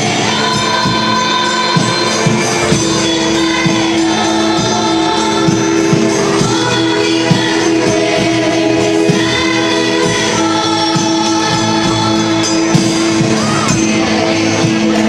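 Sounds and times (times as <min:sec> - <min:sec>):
group singing religious song: 0:00.0 - 0:15.0
instrumental accompaniment with beat: 0:00.0 - 0:15.0.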